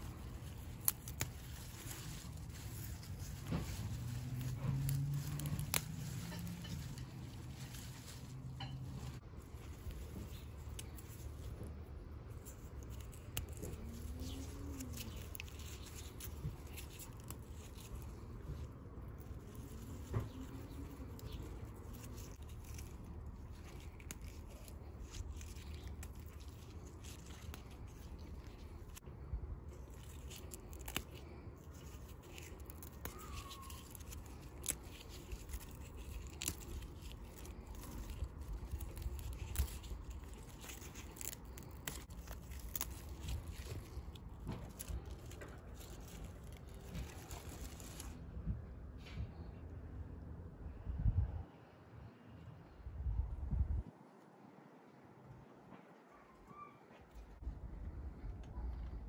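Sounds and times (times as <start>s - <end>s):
steady low rumble: 0.0s - 33.0s, 33.9s - 53.9s, 57.4s - 59.0s
leaves rustling and snapping: 0.0s - 48.3s.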